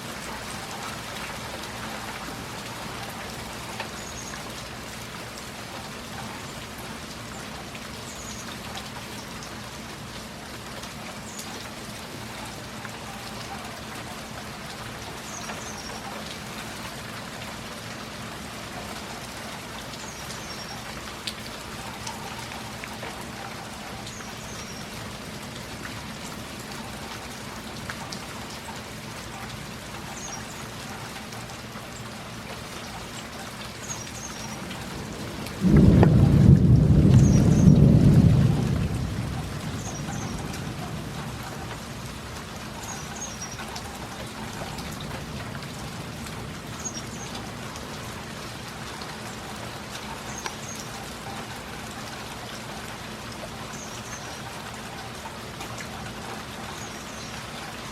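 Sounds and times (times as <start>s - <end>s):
heavy rain splashing: 0.0s - 57.9s.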